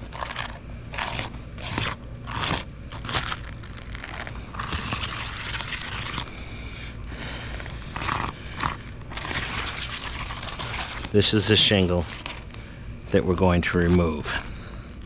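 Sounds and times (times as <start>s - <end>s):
scratching on roof shingle: 0.0s - 15.0s.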